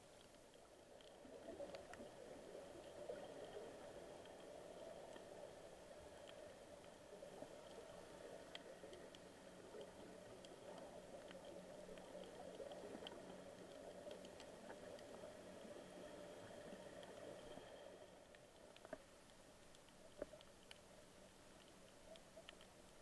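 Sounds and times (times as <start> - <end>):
faint underwater clicks: 0.0 - 23.0
underwater water wash: 0.0 - 23.0.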